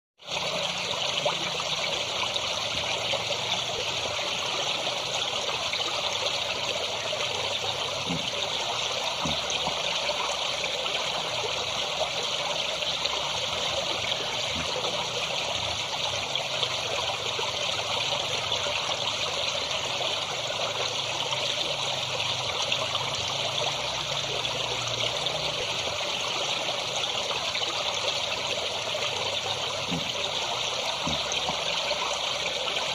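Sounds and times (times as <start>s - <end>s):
stream water flowing: 0.2s - 32.9s.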